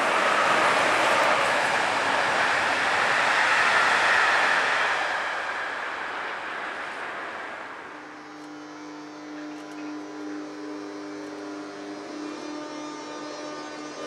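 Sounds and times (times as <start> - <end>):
steady tonal hum: 0.0 - 14.0
train passing: 0.0 - 14.0.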